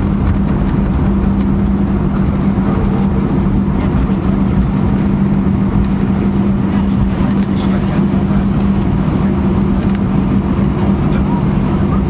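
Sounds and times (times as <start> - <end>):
aircraft engines rumbling: 0.0 - 12.0
steady hum: 0.0 - 12.0.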